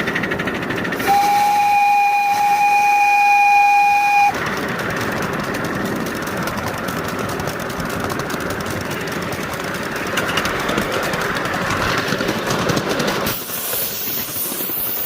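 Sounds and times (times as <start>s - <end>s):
steam locomotive running: 0.0s - 15.0s.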